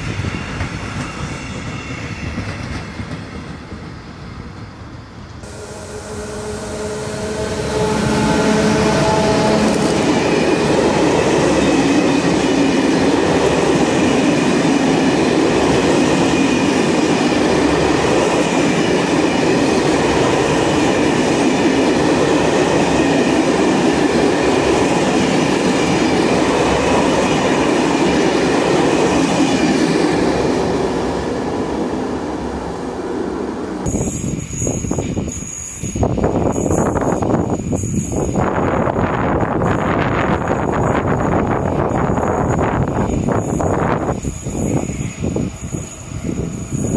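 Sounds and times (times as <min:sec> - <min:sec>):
train passing: 0:00.0 - 0:46.9
wheel and rail noise: 0:00.0 - 0:46.9.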